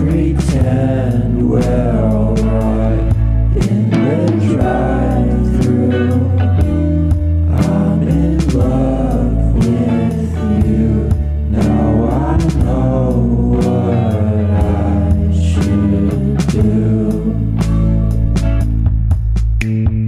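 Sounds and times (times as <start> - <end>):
song with singing voice and bass: 0.0 - 20.0.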